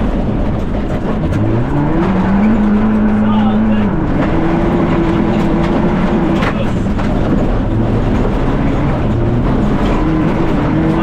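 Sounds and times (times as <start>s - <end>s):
rally car engine running hard: 0.0s - 11.0s
road and tyre noise: 0.0s - 11.0s.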